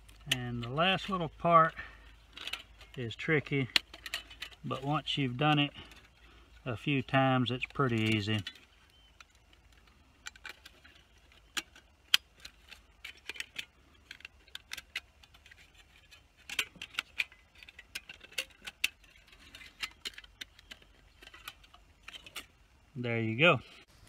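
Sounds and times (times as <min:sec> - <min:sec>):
metal panels clicking and clinking: 0:00.0 - 0:22.9.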